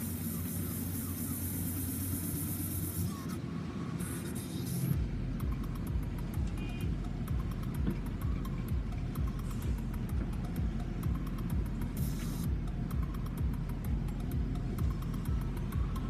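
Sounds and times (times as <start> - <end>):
distant diesel engines working: 0.0 - 16.0.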